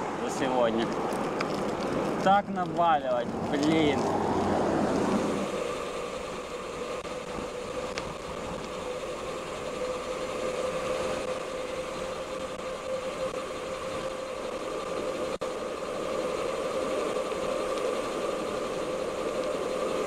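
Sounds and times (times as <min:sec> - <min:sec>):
bicycle tyres humming on asphalt: 0:00.0 - 0:20.0
wind: 0:00.0 - 0:20.0.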